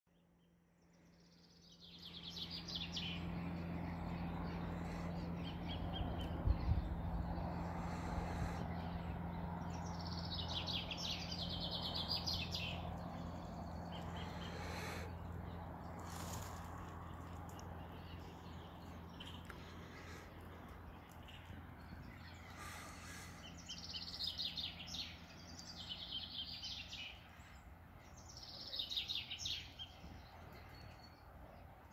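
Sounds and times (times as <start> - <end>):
birds singing: 0.1 - 31.9
steady low hum: 0.2 - 31.9.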